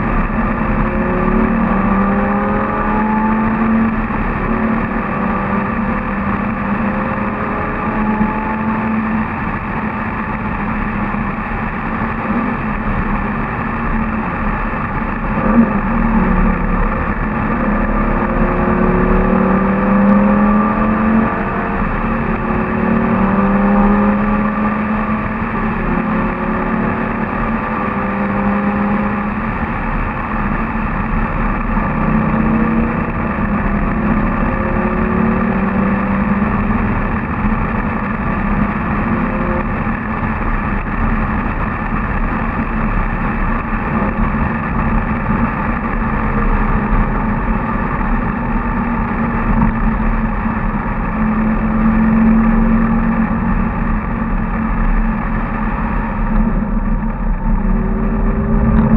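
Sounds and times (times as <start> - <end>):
sports car engine running: 0.0 - 58.9.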